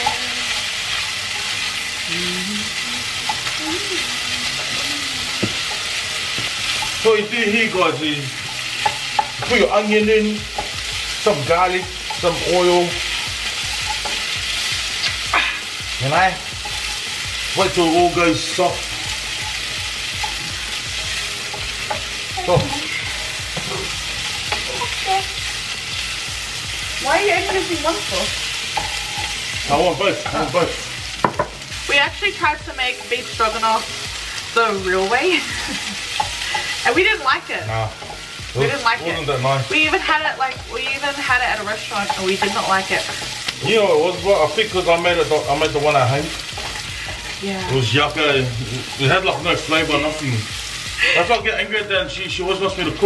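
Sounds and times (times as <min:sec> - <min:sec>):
food sizzling in a saucepan: 0:00.0 - 0:53.0.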